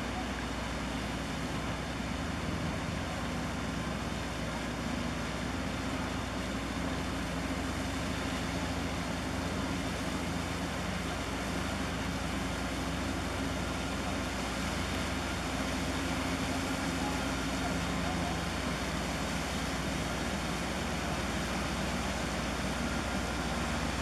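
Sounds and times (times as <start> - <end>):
ship engines droning: 0.0 - 24.0.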